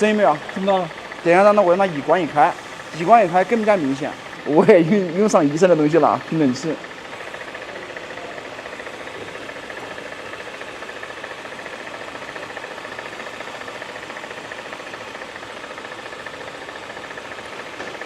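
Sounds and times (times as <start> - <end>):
high-pitched pulsing buzz: 0.0 - 17.9
engine running: 0.0 - 18.0.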